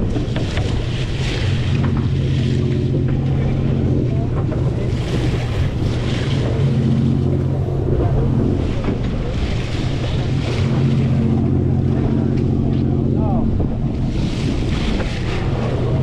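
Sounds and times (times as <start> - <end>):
boat engine droning: 0.0 - 16.0
water noise: 0.0 - 16.0
wind: 0.0 - 16.0.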